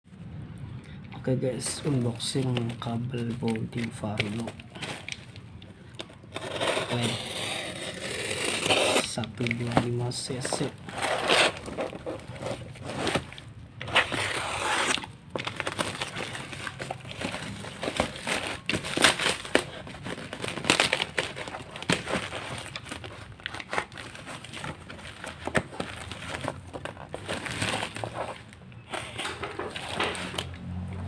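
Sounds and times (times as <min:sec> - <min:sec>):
packaging crinkling and rustling: 0:01.2 - 0:31.0.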